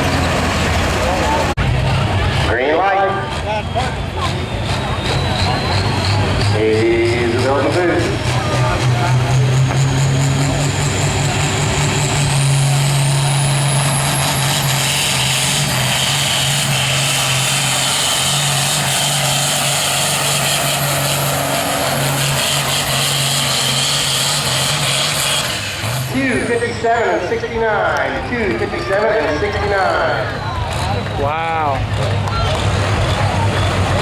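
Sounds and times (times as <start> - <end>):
truck engine under full load: 0.0 - 34.0.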